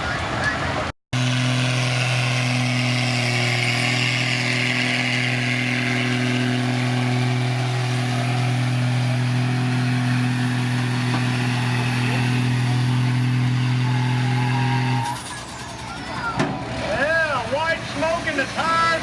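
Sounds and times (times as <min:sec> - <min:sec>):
engine droning at high revs: 0:01.2 - 0:17.1.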